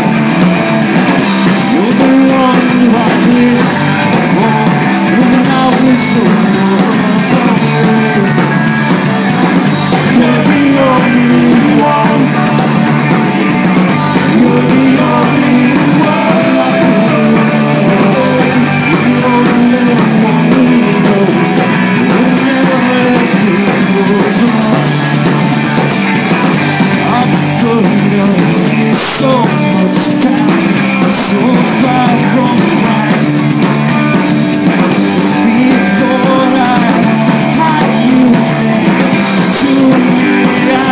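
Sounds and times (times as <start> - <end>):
drums: 0.0 - 40.9
electric guitars: 0.0 - 40.9.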